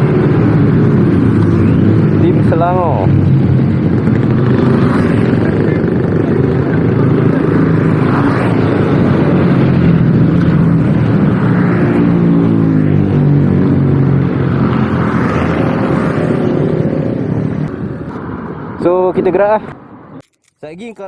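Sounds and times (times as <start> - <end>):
motorcycle engine running: 0.0 - 18.8
wind on microphone: 0.0 - 20.2.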